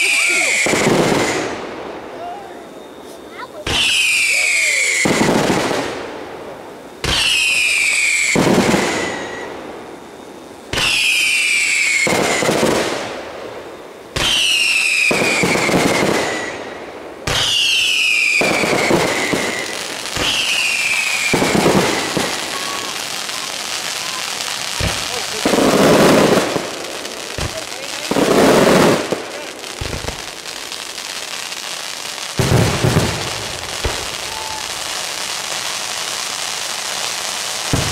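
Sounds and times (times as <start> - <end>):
falling firework whistle: 0.0 - 6.0, 7.0 - 37.9
crackling hiss: 0.0 - 37.9
fireworks blasts: 0.0 - 37.9.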